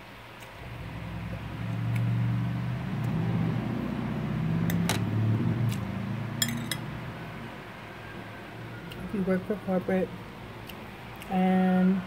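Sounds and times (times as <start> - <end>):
vehicle engine passing: 0.6 - 10.6.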